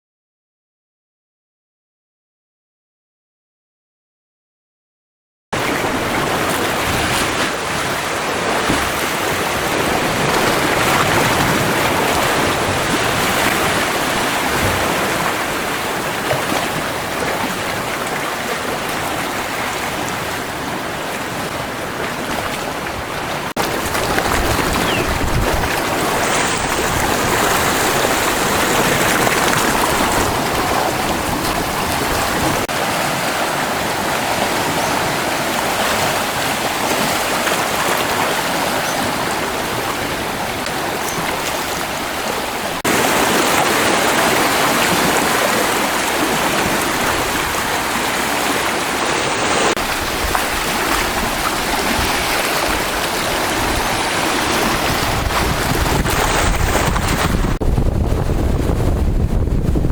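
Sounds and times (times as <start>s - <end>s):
sea waves and surf: 5.6s - 59.9s
wind buffeting microphone: 5.8s - 59.9s.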